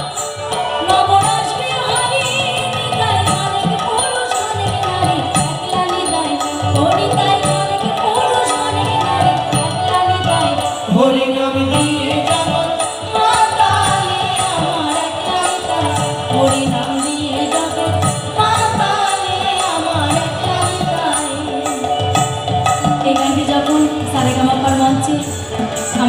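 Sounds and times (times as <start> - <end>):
hand percussion: 0.0 - 26.0
live fusion music: 0.0 - 26.0.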